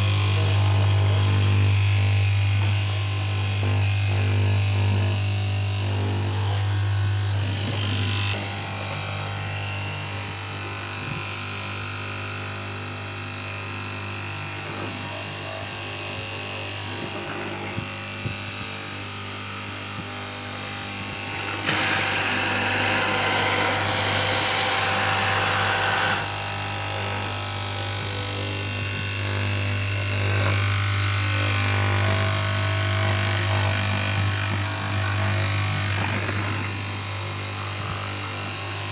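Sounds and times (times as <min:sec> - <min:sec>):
fabric cutting machine running: 0:00.0 - 0:38.9.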